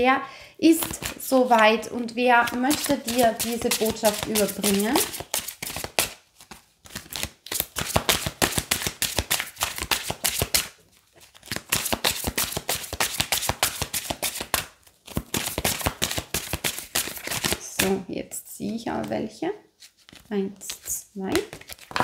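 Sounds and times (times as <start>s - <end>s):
cards being shuffled by hand: 0.8s - 17.9s, 18.9s - 22.0s.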